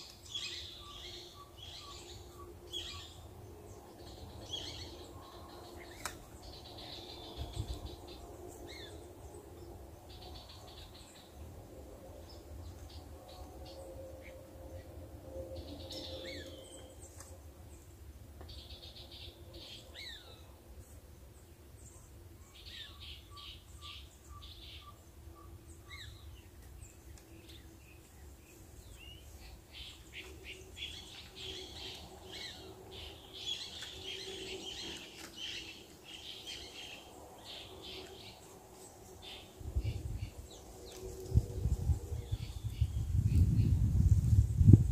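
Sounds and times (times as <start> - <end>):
birds chirping and trilling: 0.0 - 43.9.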